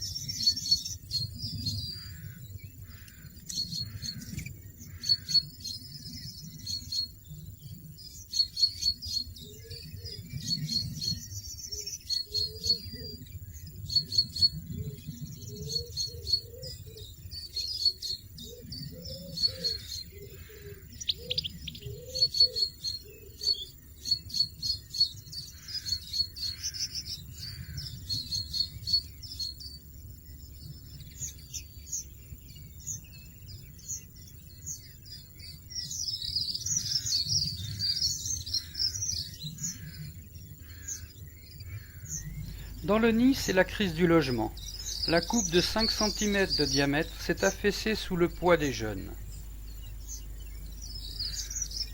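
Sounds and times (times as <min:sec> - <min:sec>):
finches chirping: 0:00.0 - 0:51.9.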